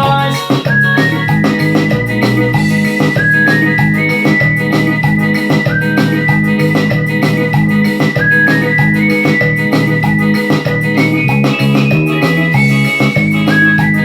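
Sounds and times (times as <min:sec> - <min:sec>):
electronic keyboard music: 0:00.0 - 0:14.0.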